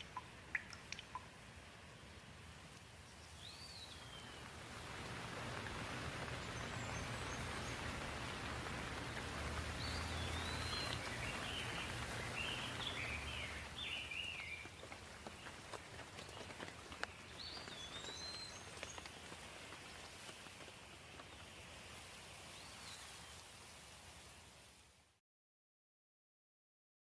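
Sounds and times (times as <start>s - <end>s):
rain falling: 0.0s - 25.2s
small birds chirping: 1.9s - 23.6s.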